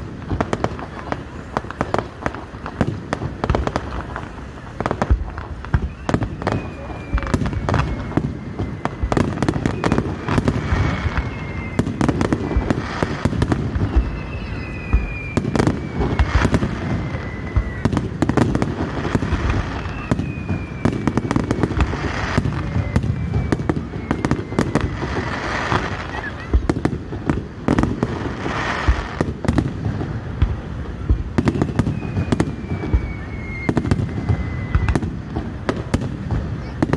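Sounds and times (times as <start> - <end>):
fireworks bursts and crackles: 0.0 - 36.9
fireworks whistling: 0.0 - 36.9.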